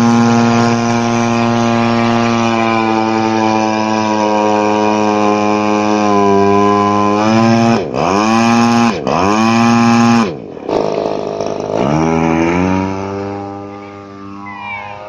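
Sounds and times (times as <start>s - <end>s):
model plane engine revving: 0.0s - 15.0s.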